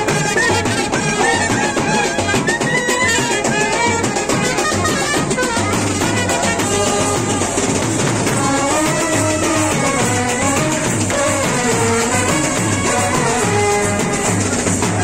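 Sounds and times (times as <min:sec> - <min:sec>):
brass band trumpets: 0:00.0 - 0:15.0
snare and bass drums: 0:00.0 - 0:15.0.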